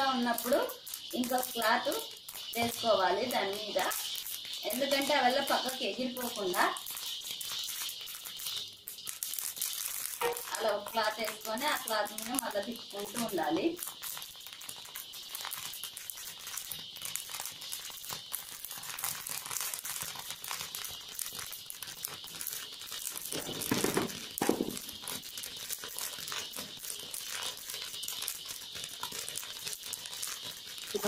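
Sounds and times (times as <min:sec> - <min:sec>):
grains popping in a wok: 0:00.0 - 0:31.0.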